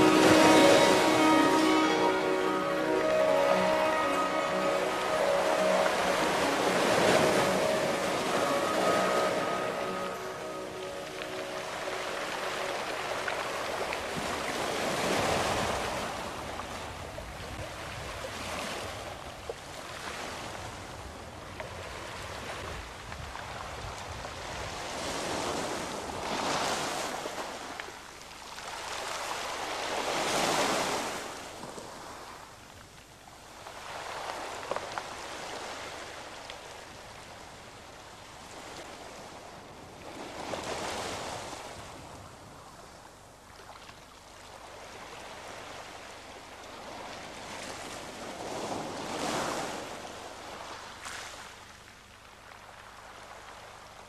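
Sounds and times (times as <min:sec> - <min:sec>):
sea waves breaking: 0:00.0 - 0:32.4, 0:33.6 - 0:51.7.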